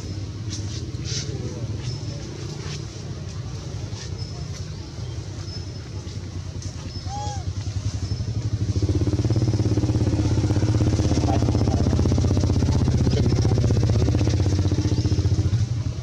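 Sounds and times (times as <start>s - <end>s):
motor engine running: 1.4s - 16.0s.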